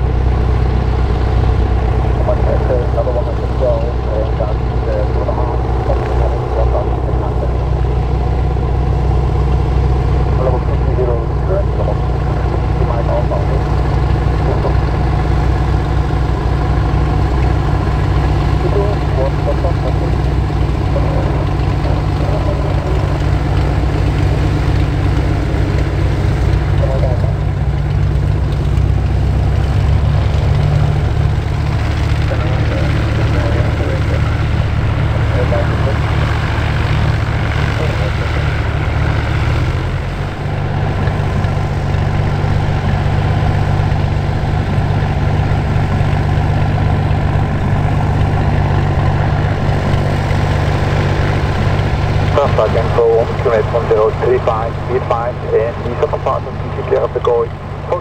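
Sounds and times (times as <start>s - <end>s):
light aircraft engine and propeller: 0.0s - 58.0s.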